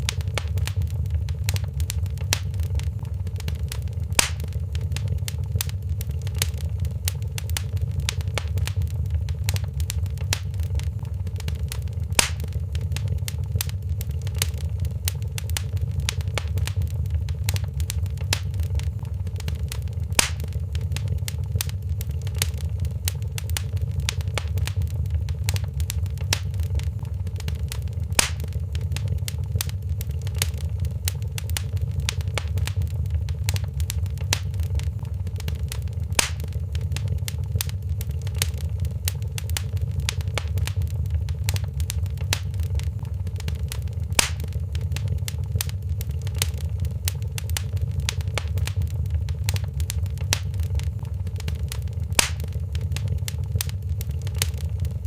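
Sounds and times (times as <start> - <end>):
low rumble: 0.0 - 55.0
wood fire crackling: 0.0 - 55.0.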